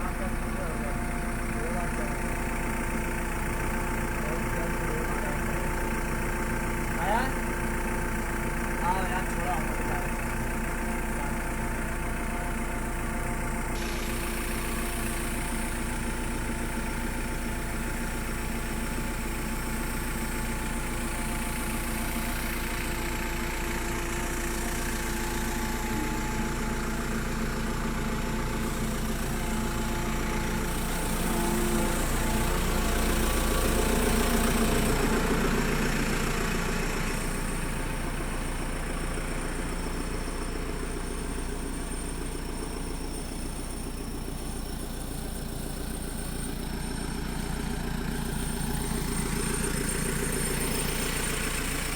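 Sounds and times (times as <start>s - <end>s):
backhoe diesel engine running: 0.0s - 51.9s.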